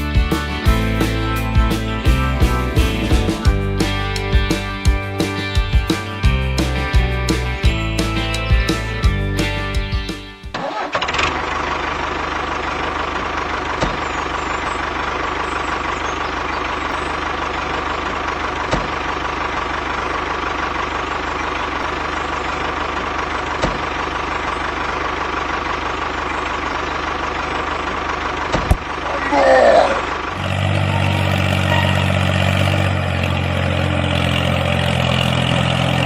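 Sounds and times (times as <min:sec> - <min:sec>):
tractor engine idling: 0:00.0 - 0:36.0.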